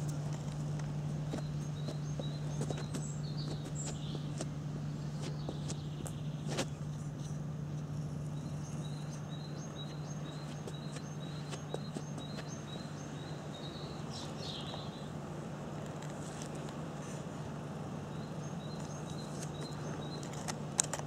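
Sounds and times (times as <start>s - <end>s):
small bird singing: 0.0s - 15.1s, 18.1s - 20.5s
steady low hum: 0.0s - 21.0s.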